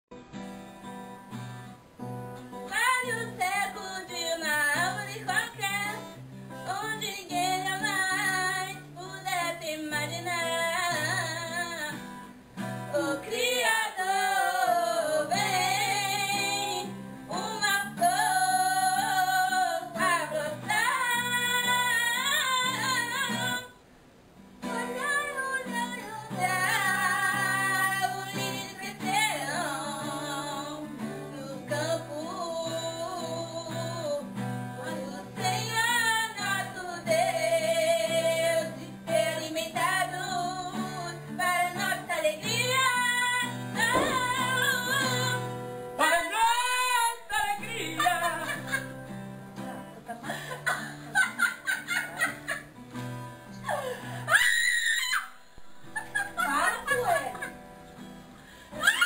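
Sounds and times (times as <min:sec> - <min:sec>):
guitar accompaniment: 0:00.1 - 0:59.0
woman singing: 0:02.6 - 0:23.8, 0:24.6 - 0:51.2, 0:58.7 - 0:59.0.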